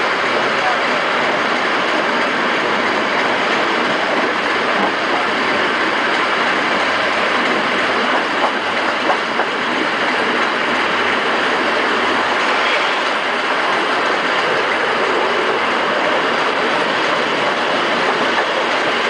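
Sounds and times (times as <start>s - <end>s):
train wheel and running noise: 0.0s - 19.0s
wheels clicking on track: 0.1s - 19.0s.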